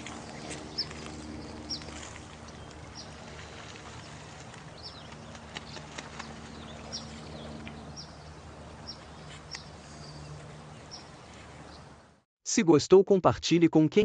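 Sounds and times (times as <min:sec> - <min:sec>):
low hum: 0:00.0 - 0:12.2.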